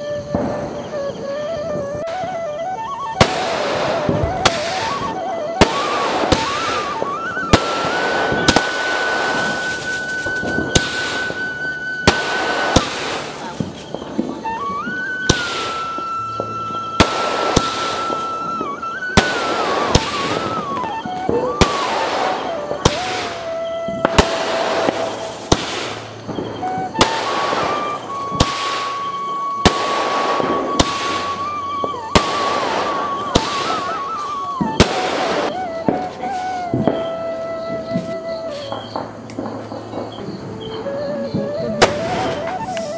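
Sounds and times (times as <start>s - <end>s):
background music melody: 0.0s - 42.9s
fireworks banging: 0.0s - 42.9s
crackling spray of sparks: 2.7s - 40.3s, 41.6s - 42.9s.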